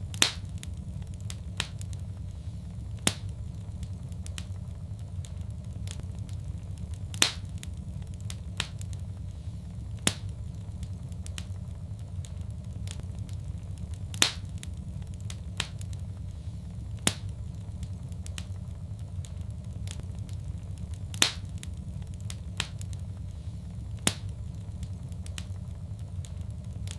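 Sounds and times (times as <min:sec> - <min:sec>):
fire sharp pops: 0:00.0 - 0:26.9
steady low rumble: 0:00.0 - 0:26.9
wood fire crackling: 0:00.0 - 0:26.9.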